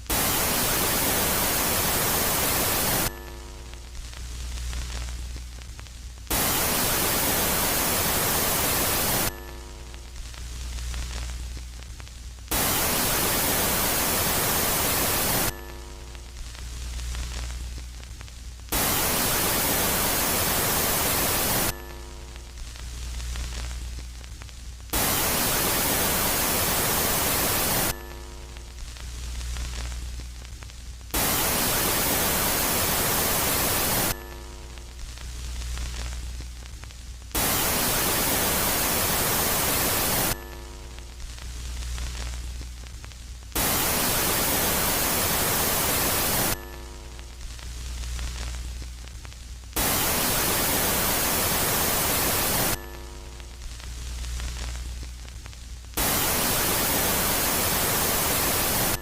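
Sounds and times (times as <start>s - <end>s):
bursts of static hiss: 0.0s - 59.0s.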